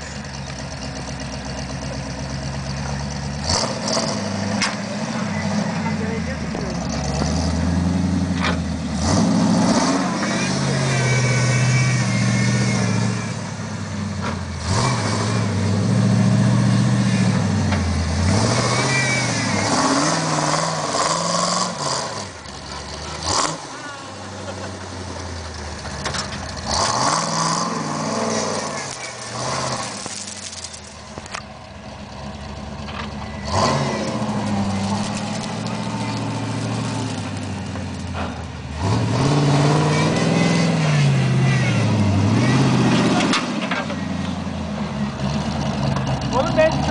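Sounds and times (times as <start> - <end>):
engine revving up and down: 3.3 - 25.2, 26.1 - 30.6, 33.3 - 46.9.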